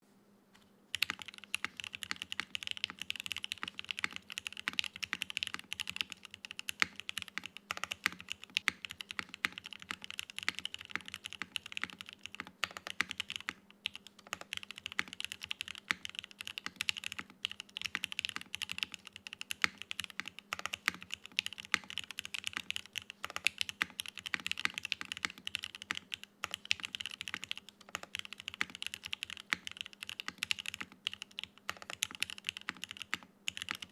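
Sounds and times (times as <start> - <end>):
typing on mechanical keyboard: 0.9 - 33.9.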